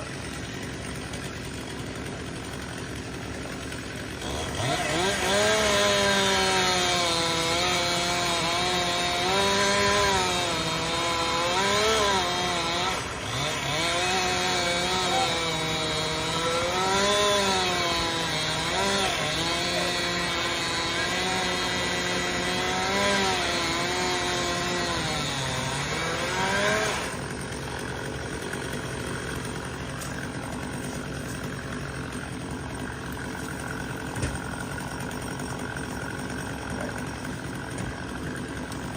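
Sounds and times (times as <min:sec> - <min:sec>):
chainsaw cutting wood: 0:00.0 - 0:38.9
chainsaw engine drone: 0:00.0 - 0:38.9.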